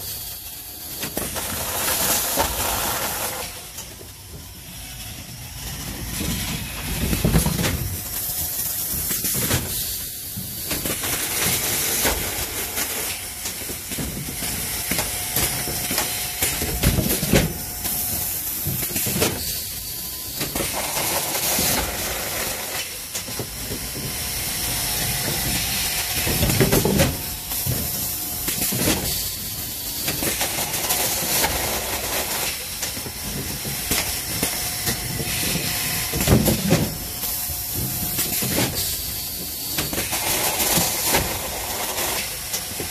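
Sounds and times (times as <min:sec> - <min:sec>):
mechanical clatter: 0:00.0 - 0:42.9
pneumatic cylinders hissing: 0:00.0 - 0:42.9.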